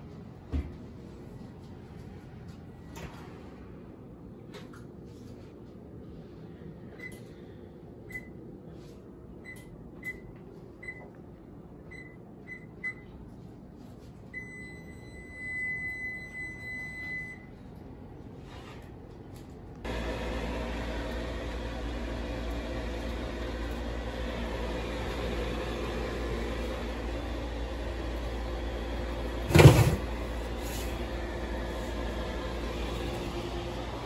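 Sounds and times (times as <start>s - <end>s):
oven fan humming: 0.0s - 34.0s.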